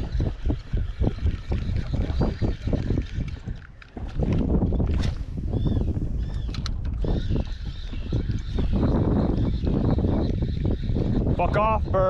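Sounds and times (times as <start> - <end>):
fishing reel cranking: 0.0 - 4.4, 6.3 - 12.0
wind buffeting microphone: 0.0 - 12.0.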